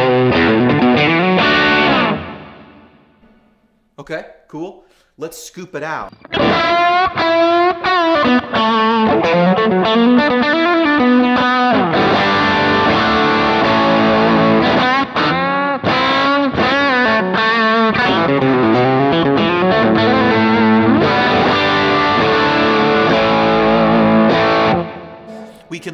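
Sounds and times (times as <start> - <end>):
distorted electric guitar: 0.0 - 3.4, 6.1 - 25.7.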